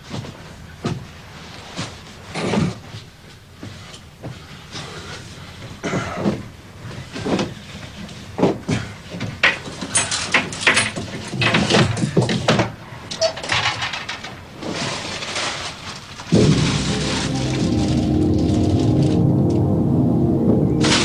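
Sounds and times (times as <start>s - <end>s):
rummaging in a wardrobe: 0.0s - 19.0s.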